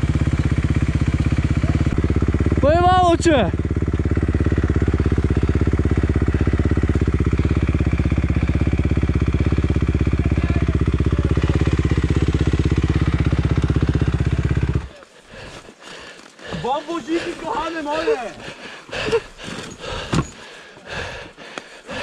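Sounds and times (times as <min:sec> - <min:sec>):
dirt bike engine idling: 0:00.0 - 0:22.0.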